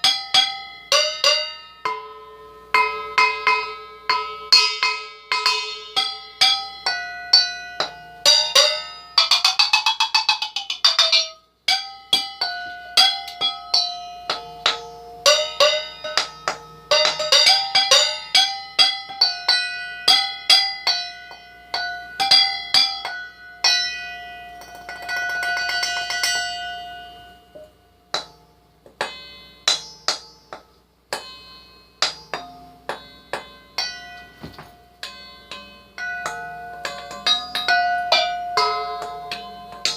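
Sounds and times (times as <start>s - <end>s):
mixing bowls struck ringing: 0.0s - 39.9s.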